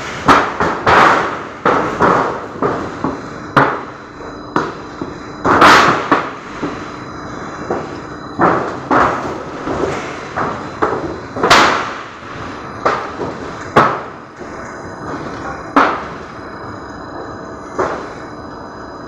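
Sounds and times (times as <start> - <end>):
machine bangs and clanks: 0.0 - 16.4
machine running noise: 0.0 - 19.0.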